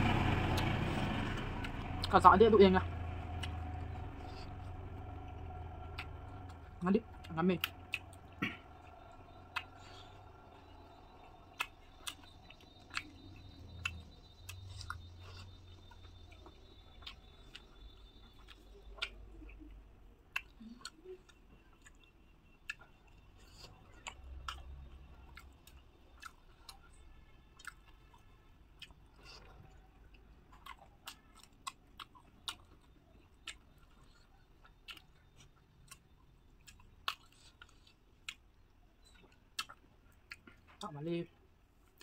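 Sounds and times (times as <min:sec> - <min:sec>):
person chewing food: 0:03.1 - 0:40.8.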